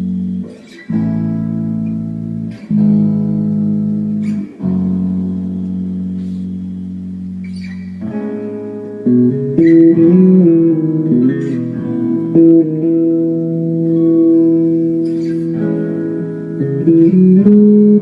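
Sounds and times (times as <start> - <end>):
guitar-led live band music: 0.0 - 18.0.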